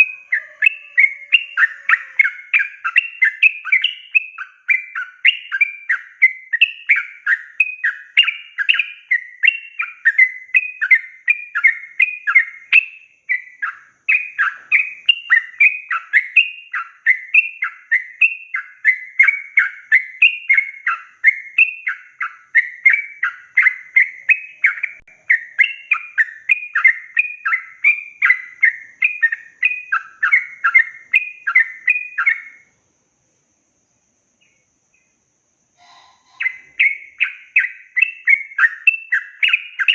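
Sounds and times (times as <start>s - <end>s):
bird singing chattering phrases: 0.0s - 32.6s, 35.8s - 39.9s.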